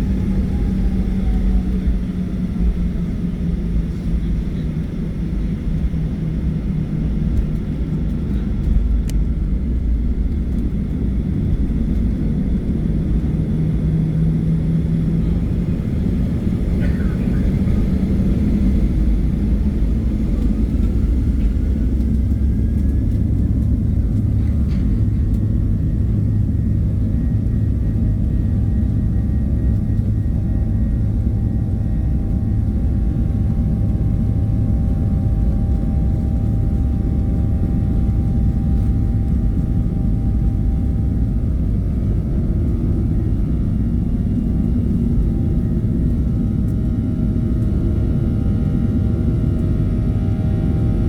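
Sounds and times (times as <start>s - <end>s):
jet airliner rumble: 0.0s - 51.0s.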